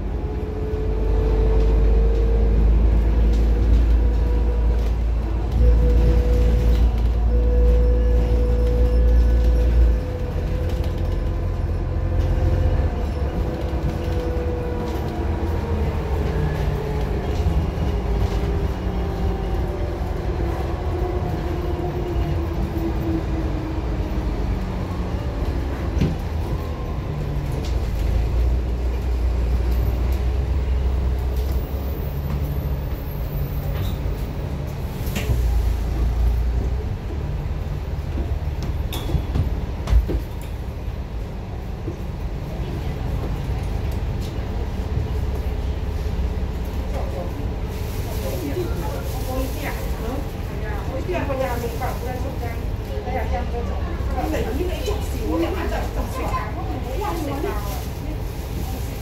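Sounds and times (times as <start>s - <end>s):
bus engine drone and whine: 0.0s - 59.0s.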